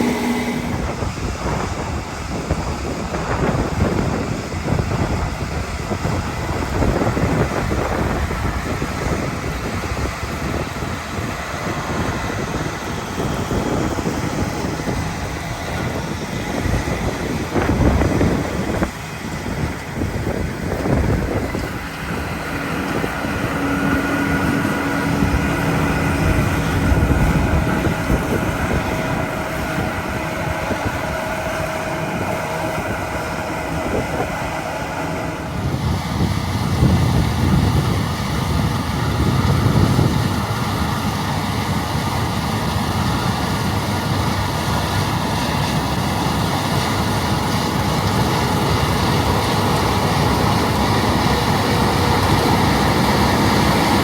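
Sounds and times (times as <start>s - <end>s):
harvest machinery engine hum: 0.0s - 54.0s
whirring drone: 0.0s - 54.0s.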